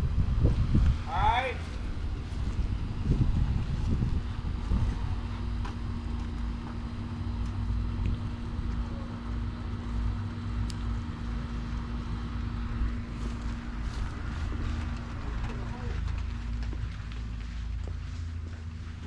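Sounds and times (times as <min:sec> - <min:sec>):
steady mechanical hum: 0:00.0 - 0:19.0
wind rumbling on microphone: 0:00.0 - 0:19.0.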